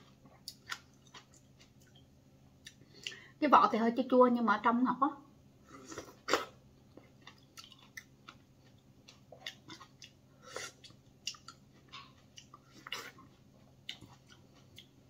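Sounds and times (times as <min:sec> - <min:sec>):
person chewing and lip-smacking: 0:00.0 - 0:03.2, 0:05.9 - 0:15.0.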